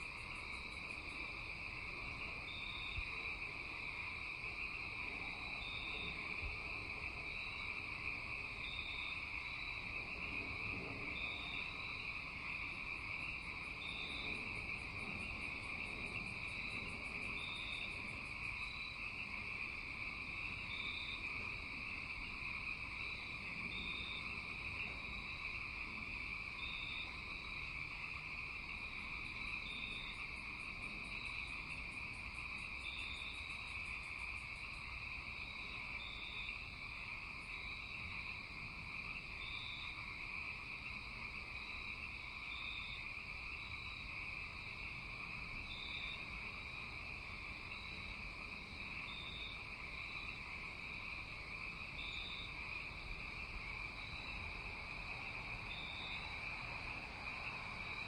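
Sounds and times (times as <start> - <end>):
frogs calling: 0.0 - 58.0
insects trilling: 0.0 - 58.0.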